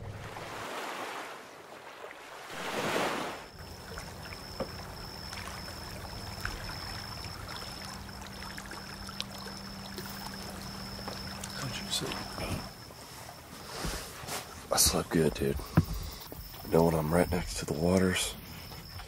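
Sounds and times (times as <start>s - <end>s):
water lapping at shore: 0.0s - 19.0s
crickets trilling: 1.8s - 19.0s.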